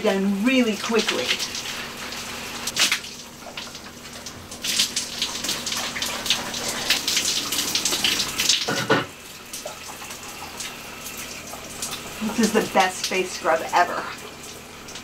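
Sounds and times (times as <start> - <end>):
shower water splashing: 0.0 - 15.0.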